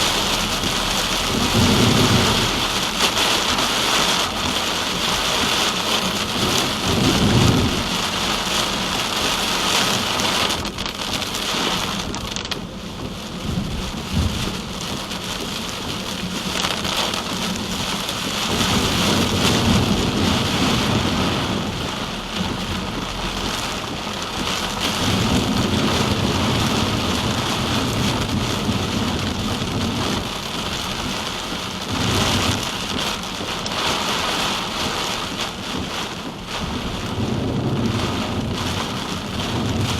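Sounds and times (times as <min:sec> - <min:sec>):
low rumbles: 0:00.0 - 0:33.7
rain on a moving car: 0:00.0 - 0:39.9
wet road noise: 0:00.0 - 0:39.9.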